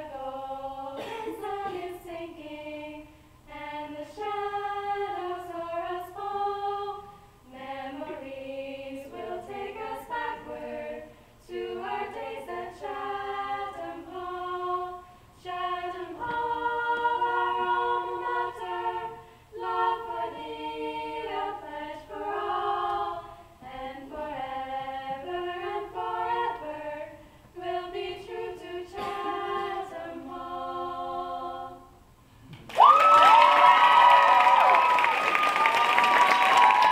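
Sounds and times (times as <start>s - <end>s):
women singing a cappella harmony: 0.0s - 32.1s.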